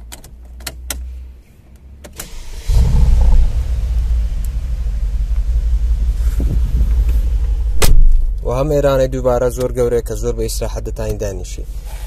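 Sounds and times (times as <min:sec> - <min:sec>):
car engine starting and idling: 0:02.0 - 0:12.0.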